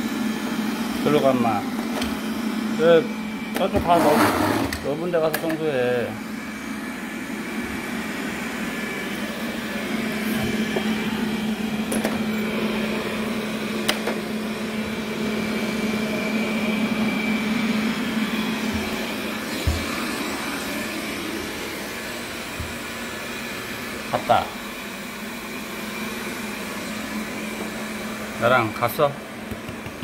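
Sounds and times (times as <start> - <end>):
robot vacuum cleaner humming: 0.0 - 30.0.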